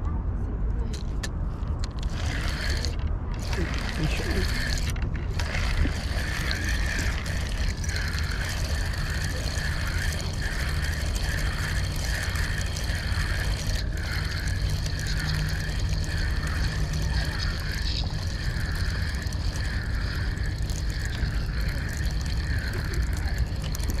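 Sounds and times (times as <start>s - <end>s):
steady low rumble: 0.0s - 24.0s
fishing reel whirring: 1.8s - 24.0s.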